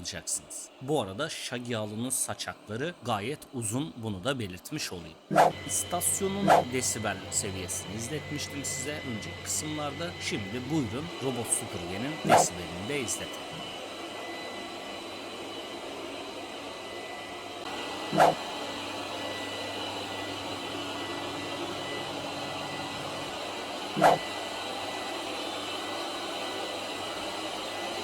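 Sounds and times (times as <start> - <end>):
robot vacuum cleaner humming: 5.3 - 28.0.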